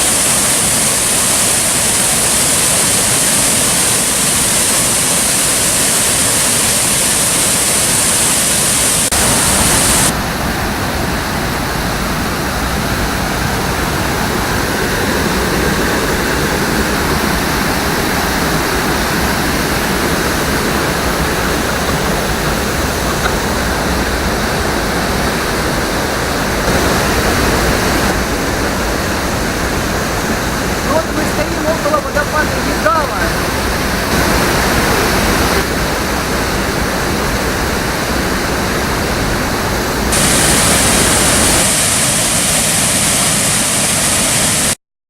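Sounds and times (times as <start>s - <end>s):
waterfall rushing: 0.0s - 44.8s.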